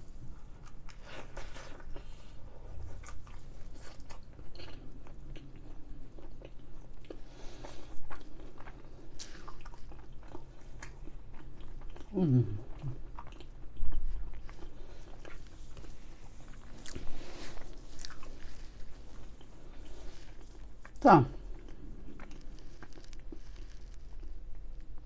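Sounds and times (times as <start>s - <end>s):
chewing with sharp crunches: 0.5s - 25.0s.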